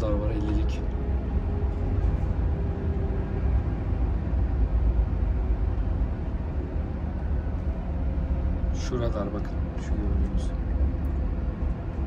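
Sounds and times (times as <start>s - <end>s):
road noise: 0.0s - 12.0s
truck diesel engine rumble: 0.0s - 12.0s.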